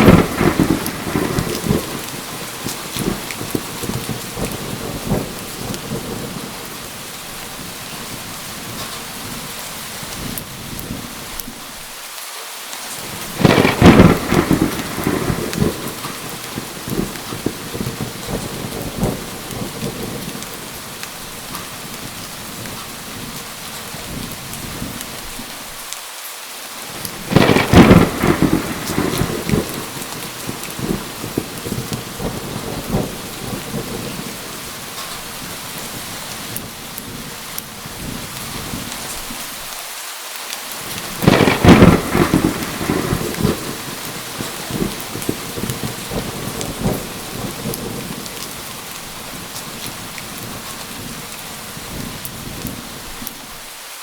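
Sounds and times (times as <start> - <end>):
thunderclaps: 0.0 - 11.2, 13.0 - 25.5, 26.9 - 39.5, 40.8 - 53.6
heavy rain: 0.0 - 54.0.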